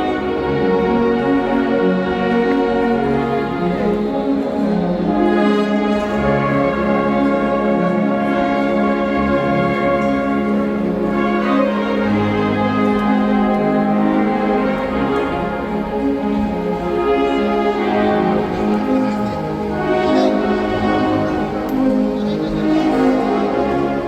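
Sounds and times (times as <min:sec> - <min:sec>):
brass and woodwind band playing: 0:00.0 - 0:24.0.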